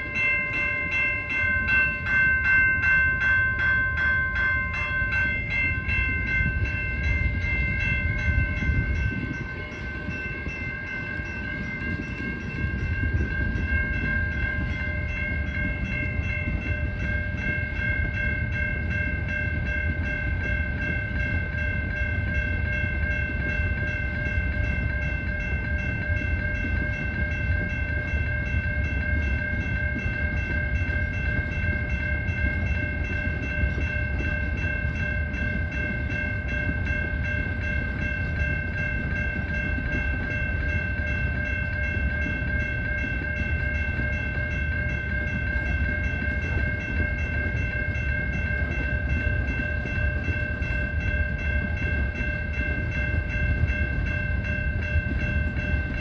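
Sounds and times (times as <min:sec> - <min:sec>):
crossing warning bell ringing: 0:00.0 - 0:56.0
freight train rumble: 0:00.0 - 0:56.0.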